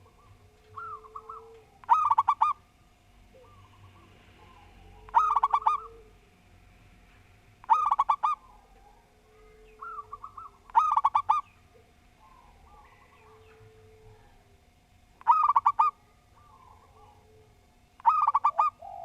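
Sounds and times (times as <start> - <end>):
dove cooing: 0.0 - 2.6, 3.3 - 6.2, 7.6 - 14.6, 15.2 - 19.0.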